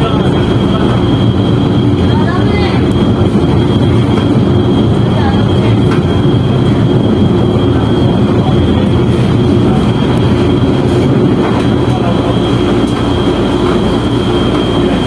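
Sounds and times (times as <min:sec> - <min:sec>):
high whine: 0:00.0 - 0:15.0
train rumbling: 0:00.0 - 0:15.0.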